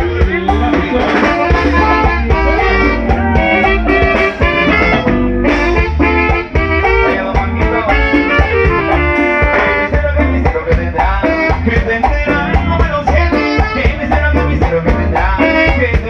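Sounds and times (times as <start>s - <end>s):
bass line: 0.0s - 16.0s
drum beat: 0.0s - 16.0s
saxophone melody: 0.0s - 16.0s.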